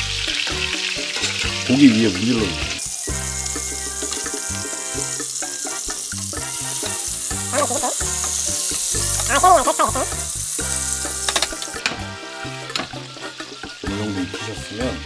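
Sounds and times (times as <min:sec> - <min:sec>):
steaks sizzling in a frying pan: 0:00.0 - 0:14.8
background music: 0:00.0 - 0:15.0.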